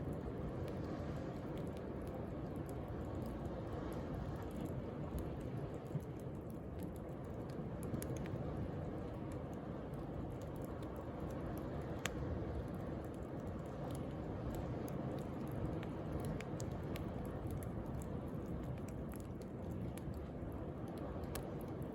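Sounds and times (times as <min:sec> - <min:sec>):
bonfire crackling and popping: 0:00.0 - 0:21.9.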